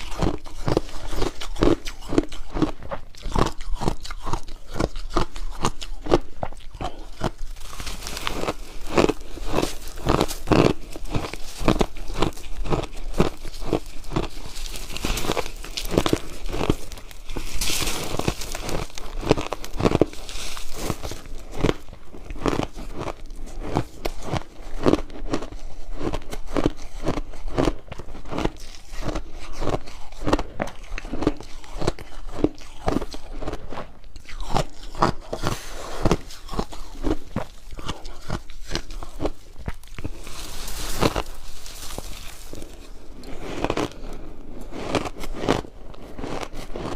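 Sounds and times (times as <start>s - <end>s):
ice crunching being chewed: 0.0s - 46.9s.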